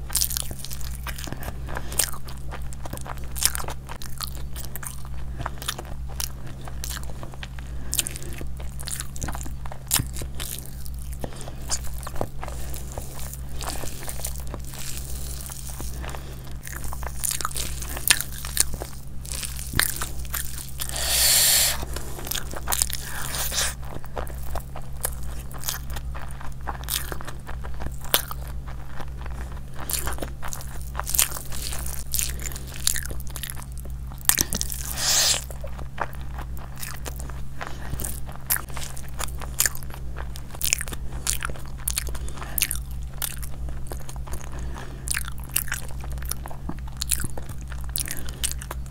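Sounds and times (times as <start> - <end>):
chewing and crunchy bites: 0.0 - 48.9
low electrical hum: 0.0 - 48.9.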